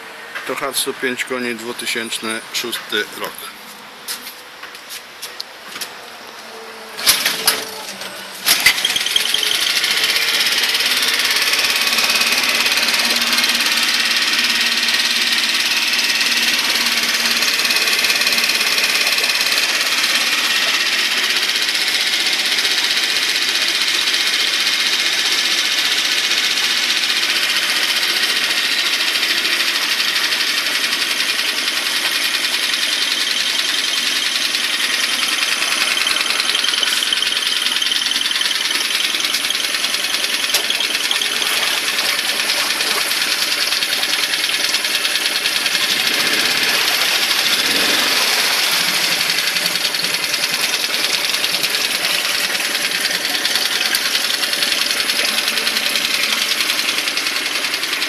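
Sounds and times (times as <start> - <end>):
outboard motor running: 6.3 - 58.0.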